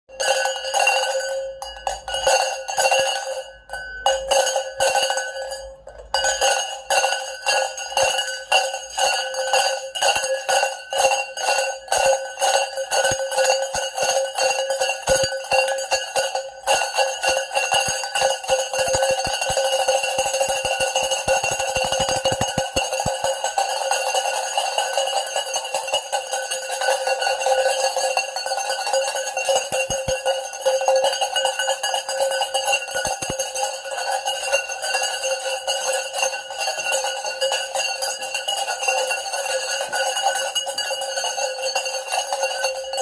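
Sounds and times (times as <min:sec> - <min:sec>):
cowbells clanking: 0:00.1 - 0:43.0.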